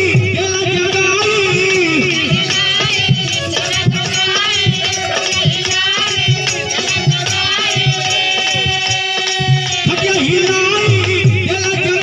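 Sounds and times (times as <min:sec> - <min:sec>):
steady drum beat: 0:00.0 - 0:12.0
tambourine jingling: 0:00.0 - 0:12.0.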